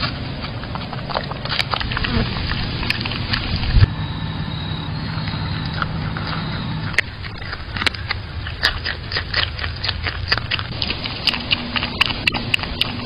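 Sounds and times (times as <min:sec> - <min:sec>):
animal crunching raw carrot: 0:00.0 - 0:13.0.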